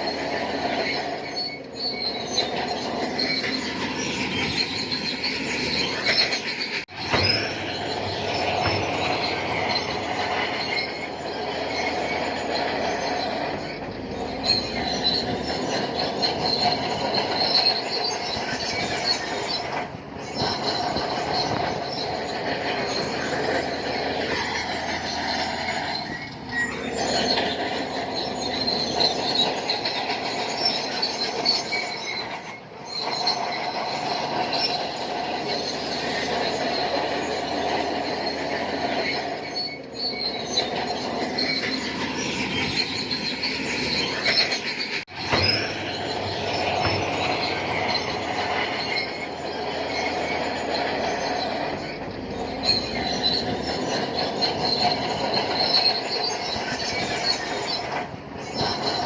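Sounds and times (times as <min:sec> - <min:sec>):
bulldozer engine running: 0:00.0 - 0:59.0
steel tracks squealing: 0:00.0 - 0:59.0.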